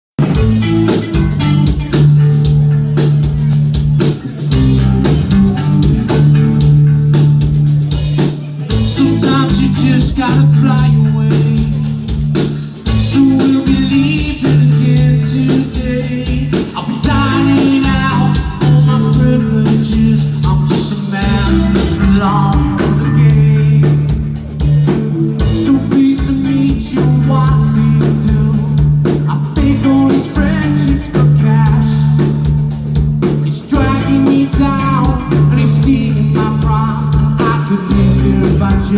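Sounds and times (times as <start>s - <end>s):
bass line: 0.2s - 38.9s
drum kit: 0.2s - 38.9s
guitar: 0.2s - 38.9s.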